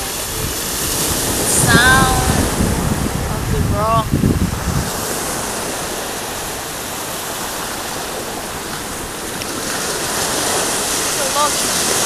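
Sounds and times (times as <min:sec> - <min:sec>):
waves on pebble beach: 0:00.0 - 0:12.0.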